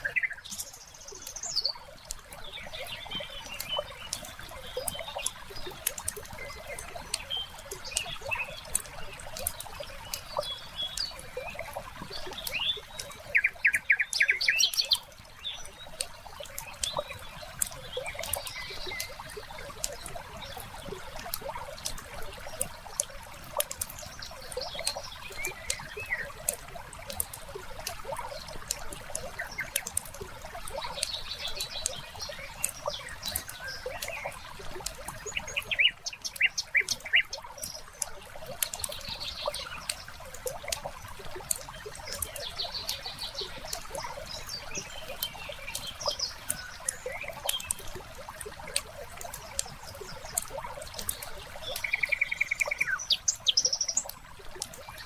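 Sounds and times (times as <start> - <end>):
birds chirping: 0.0 - 55.0
trickling water: 0.0 - 55.0
wood fire crackling and popping: 0.4 - 10.4, 14.8 - 51.8.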